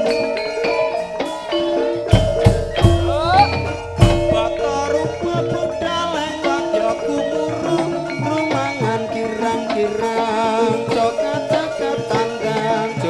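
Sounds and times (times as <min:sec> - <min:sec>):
metallophone notes: 0:00.0 - 0:13.0
wavering melody line: 0:00.0 - 0:13.0
hand drum patterns: 0:02.0 - 0:13.0.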